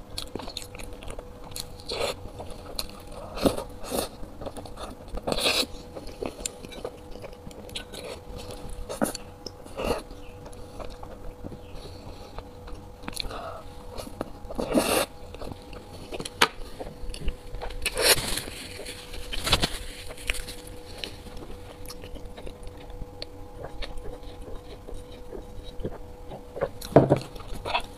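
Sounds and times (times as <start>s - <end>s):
faint steady hum: 0.0s - 27.9s
person chewing wet food: 0.0s - 27.9s.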